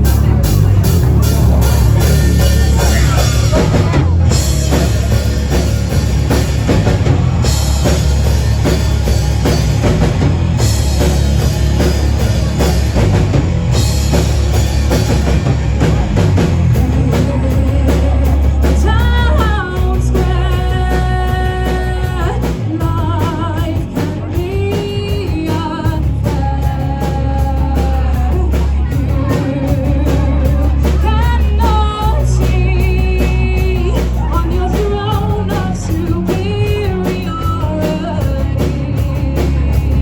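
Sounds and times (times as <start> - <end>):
bass guitar: 0.0 - 40.0
drum kit: 0.0 - 40.0
electric guitar: 0.0 - 40.0
rock band playing: 0.0 - 40.0.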